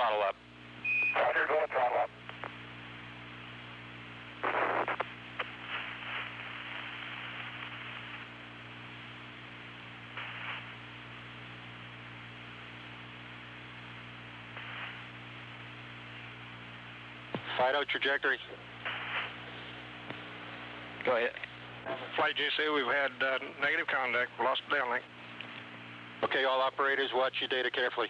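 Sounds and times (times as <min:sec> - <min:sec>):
bursts of radio static: 0:00.0 - 0:28.0
radio mains hum and hiss: 0:00.0 - 0:28.0.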